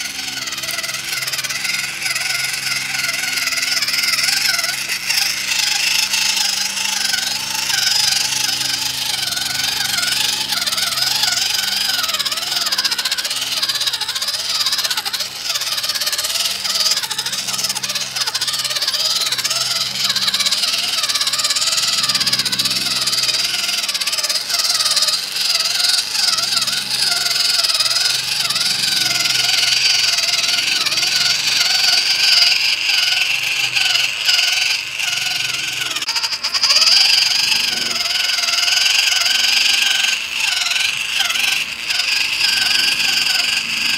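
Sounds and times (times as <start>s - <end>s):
electric motor whining: 0.0s - 43.9s.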